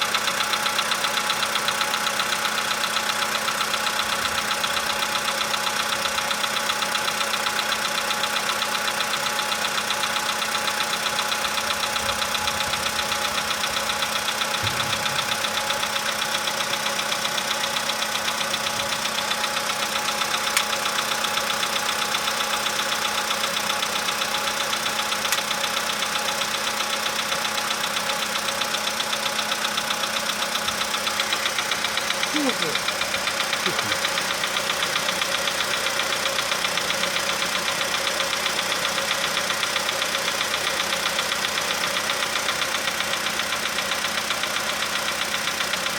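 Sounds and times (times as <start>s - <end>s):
car engine idling with knocking: 0.0s - 45.9s.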